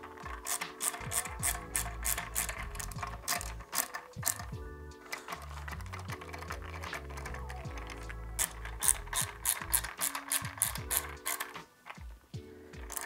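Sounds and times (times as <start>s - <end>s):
background music: 0.0s - 13.0s
ratcheting screwdriver clicking: 0.1s - 12.0s.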